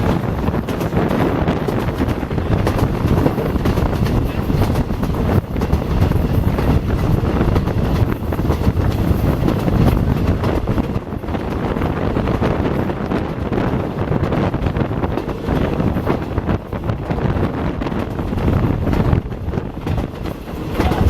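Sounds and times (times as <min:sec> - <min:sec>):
train rumble: 0:00.0 - 0:21.0
wind buffeting microphone: 0:00.0 - 0:21.0.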